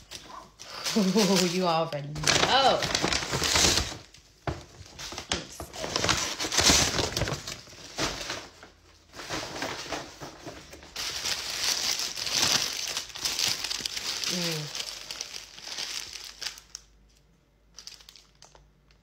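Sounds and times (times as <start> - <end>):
paper wrappers rustling: 0.0 - 19.0.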